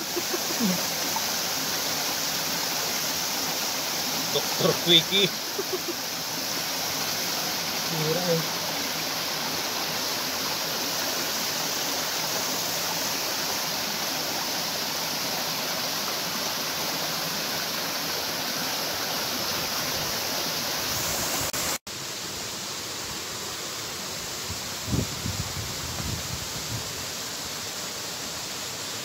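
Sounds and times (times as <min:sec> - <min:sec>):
rushing waterfall and river: 0:00.0 - 0:29.0.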